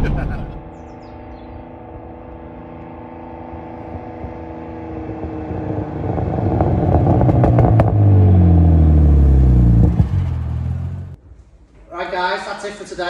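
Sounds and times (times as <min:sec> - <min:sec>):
car engine approaching: 0:00.0 - 0:11.2.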